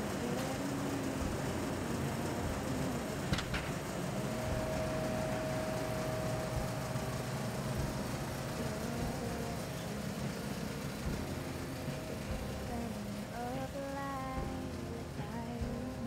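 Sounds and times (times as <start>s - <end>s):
shop hum and rumble: 0.0s - 16.0s.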